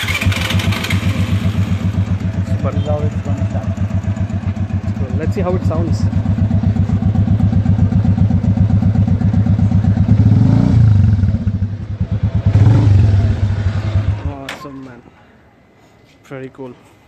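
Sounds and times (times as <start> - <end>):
motorcycle engine idling and revving: 0.0 - 14.5.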